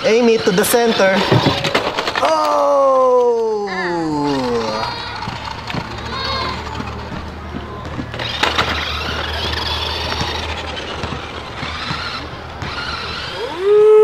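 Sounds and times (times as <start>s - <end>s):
toy car electric motor whining: 0.0s - 2.6s, 3.8s - 7.5s, 8.1s - 13.8s
tyres and gearing on concrete: 0.0s - 13.8s.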